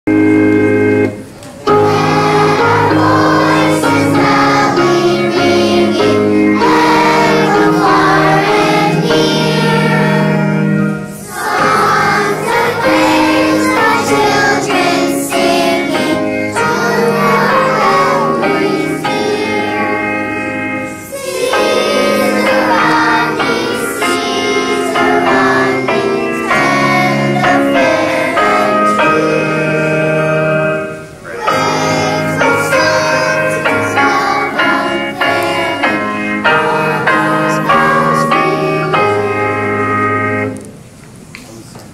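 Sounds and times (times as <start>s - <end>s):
keyboard holding steady notes: 0.0s - 41.7s
children singing: 1.6s - 39.9s.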